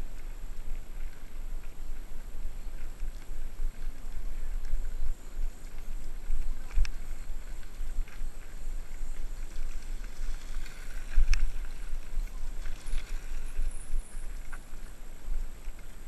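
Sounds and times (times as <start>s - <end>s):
wind buffeting camera: 0.0s - 16.0s.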